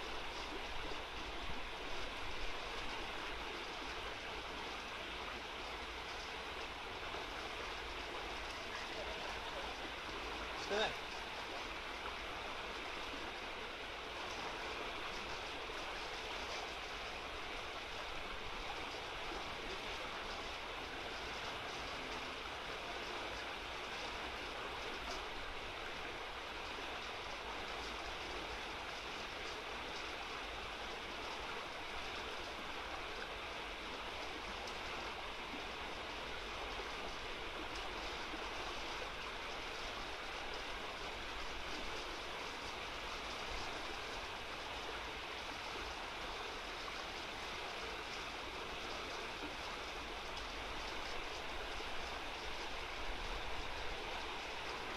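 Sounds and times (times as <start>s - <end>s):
river rushing over rocks: 0.0s - 54.9s.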